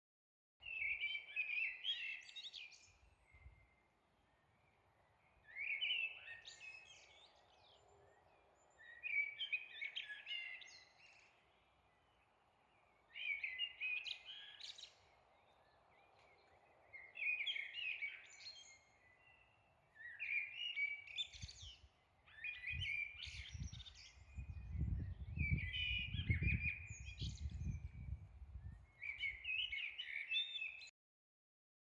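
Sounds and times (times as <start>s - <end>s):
blackbird singing: 0.6s - 30.9s.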